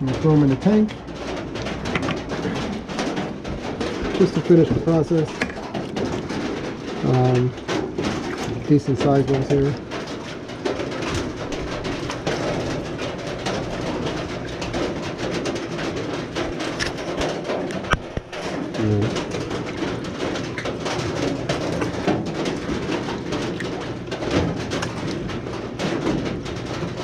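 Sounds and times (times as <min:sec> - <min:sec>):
rain on a metal roof: 0:00.0 - 0:27.0.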